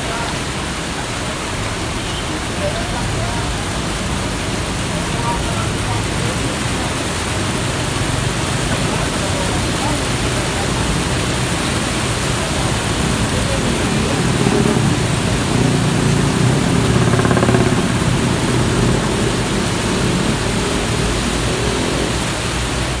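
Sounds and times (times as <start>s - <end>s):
heavy rain pouring: 0.0s - 23.0s
passing vehicles engine rumble: 0.0s - 23.0s.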